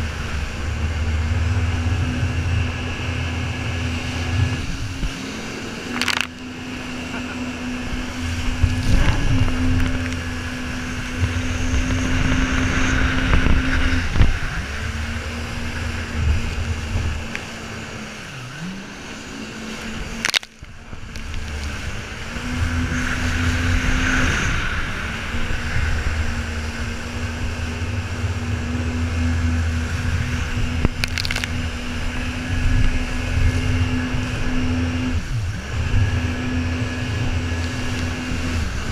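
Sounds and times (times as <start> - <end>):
jet ski engine running: 0.0 - 38.9.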